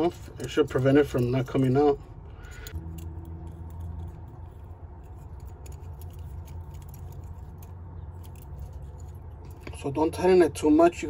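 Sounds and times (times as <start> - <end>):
small metallic clicks: 0.0 - 9.9
steady low hum: 0.0 - 11.0.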